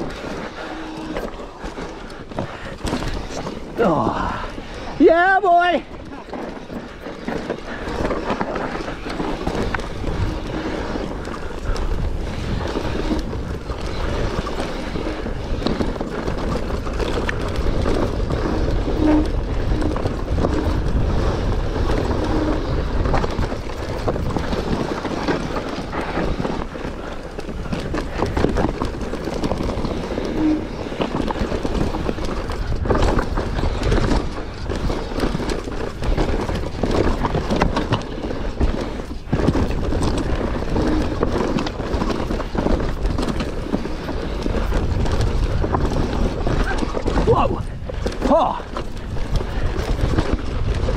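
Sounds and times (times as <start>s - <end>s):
bike clicks and rattles: 0.0s - 50.9s
bike tyres rumbling over rock: 0.0s - 50.9s.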